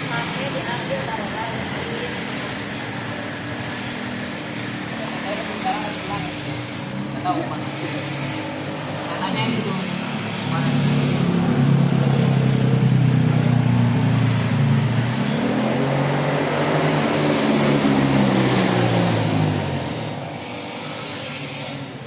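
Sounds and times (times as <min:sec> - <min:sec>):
motor tricycle engine running: 0:00.0 - 0:22.0.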